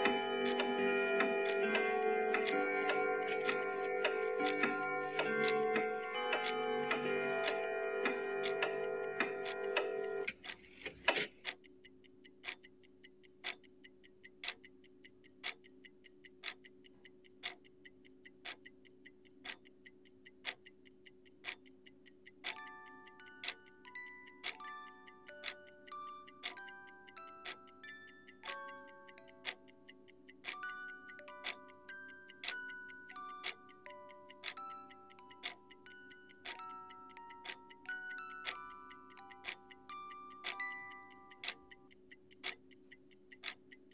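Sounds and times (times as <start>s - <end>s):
clock ticking: 0.0s - 43.9s.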